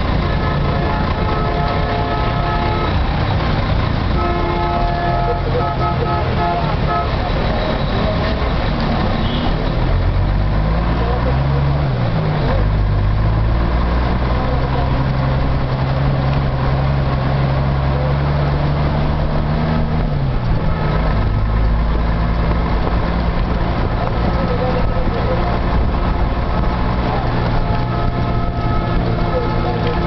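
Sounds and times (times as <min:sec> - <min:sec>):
large vehicle engine humming: 0:00.0 - 0:30.0
street traffic: 0:00.0 - 0:30.0.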